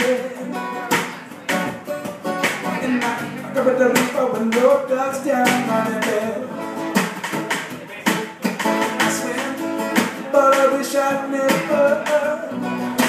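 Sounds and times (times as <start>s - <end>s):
man singing: 0.0s - 1.7s, 2.6s - 13.0s
strummed acoustic guitar: 0.0s - 13.0s.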